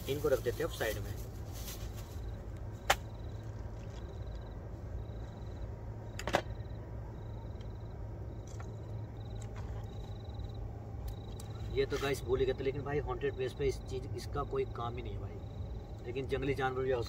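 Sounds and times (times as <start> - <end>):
insects chirping in pulsed trills: 0.0 - 17.0
low steady rumble: 0.0 - 17.0.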